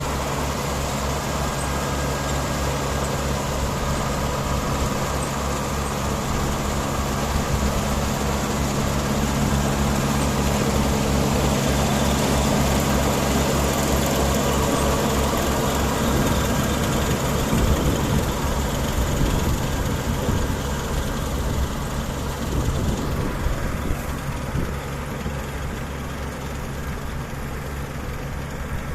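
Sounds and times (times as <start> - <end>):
diesel engine drone: 0.0 - 28.9.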